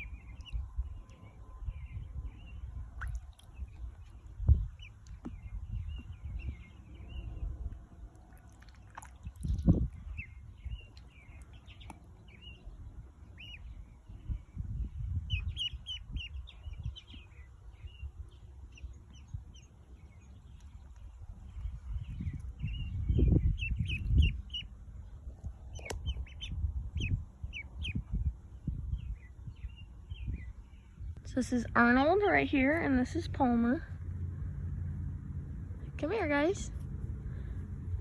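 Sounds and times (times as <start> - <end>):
ducklings peeping: 0.0 - 24.8, 25.4 - 34.2
low rumble: 0.0 - 38.0.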